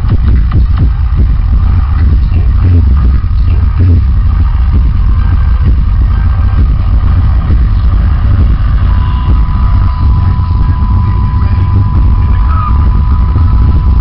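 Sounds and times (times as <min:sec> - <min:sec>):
overdriven bass-heavy music playback: 0:00.0 - 0:14.0
steady high tone: 0:01.6 - 0:14.0.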